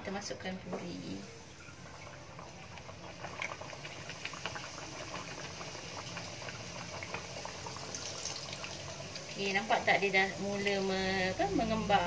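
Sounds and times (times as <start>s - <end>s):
dough deep-frying in oil: 0.1s - 12.0s.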